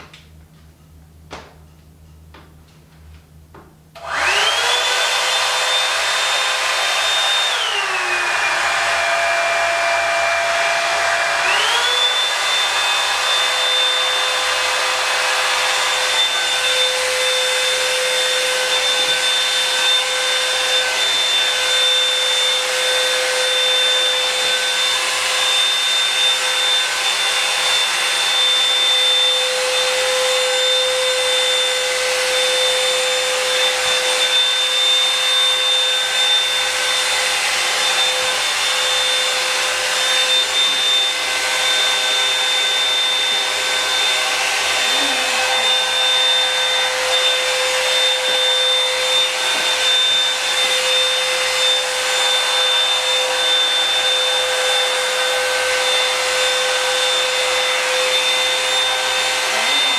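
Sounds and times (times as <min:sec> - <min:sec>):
high motor whine: 0:04.0 - 0:59.9
hot-air brush blowing: 0:04.0 - 0:59.9.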